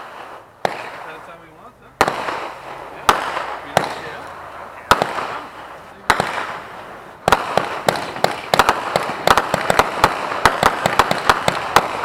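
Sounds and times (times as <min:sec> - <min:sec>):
fireworks crackle: 0:00.0 - 0:12.0
fireworks sharp cracks: 0:00.0 - 0:12.0.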